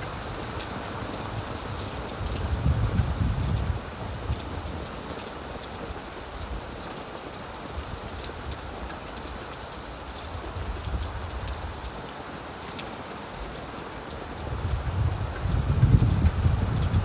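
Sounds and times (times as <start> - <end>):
heavy rain on a tin roof: 0.0 - 17.0.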